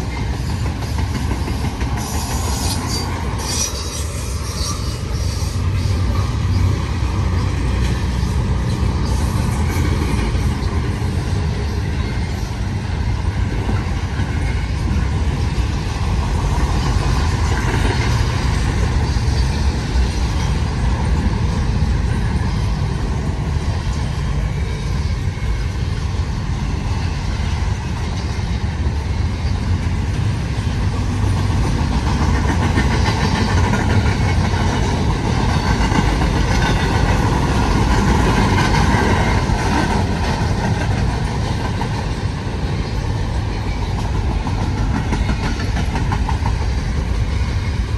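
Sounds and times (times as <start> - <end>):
freight train rumbling on rails: 0.0 - 47.9.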